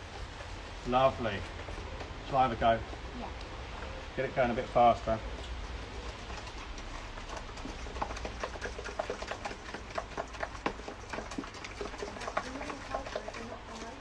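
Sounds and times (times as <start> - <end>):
utensil beating batter in metal bowl: 0.0 - 14.0.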